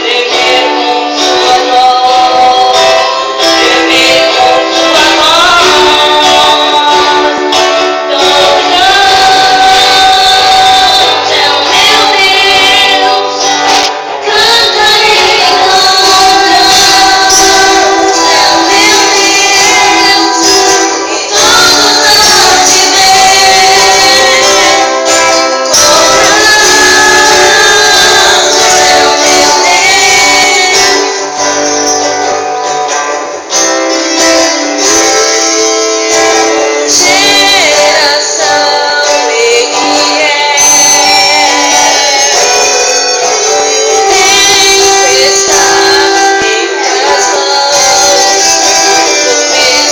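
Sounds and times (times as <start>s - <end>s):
woman singing over instruments: 0.0s - 49.9s.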